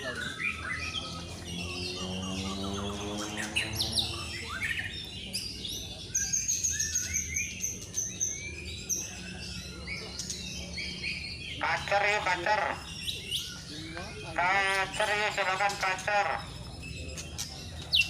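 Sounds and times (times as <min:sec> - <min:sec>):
birds singing whistled phrases: 0:00.0 - 0:18.0
high rapid bird trill: 0:00.0 - 0:18.0.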